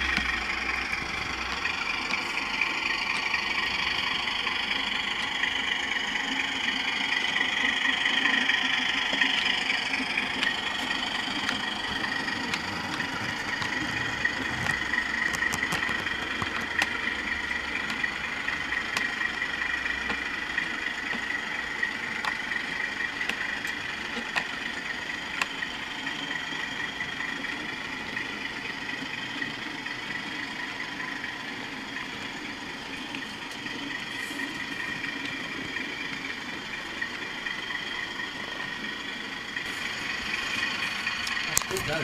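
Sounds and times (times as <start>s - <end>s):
model train engine sound: 0.0s - 42.0s
wheels whirring on track: 0.0s - 42.0s.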